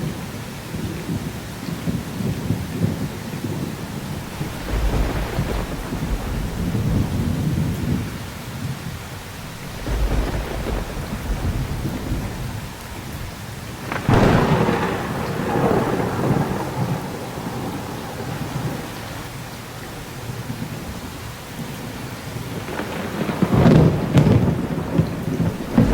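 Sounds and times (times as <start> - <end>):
heavy rain falling: 0.0 - 25.9
rolling thunder: 1.8 - 25.9
sharp thunderclap: 2.4 - 25.9.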